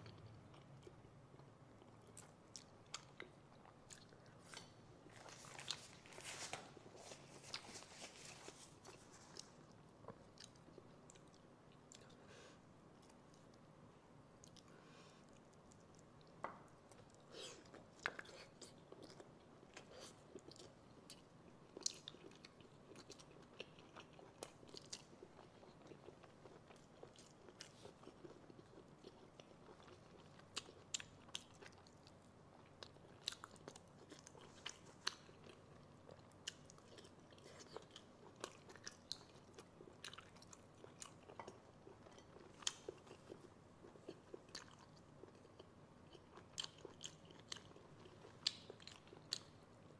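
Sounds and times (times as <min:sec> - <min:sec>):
close-miked chewing: 0:00.0 - 0:12.2, 0:14.4 - 0:49.9.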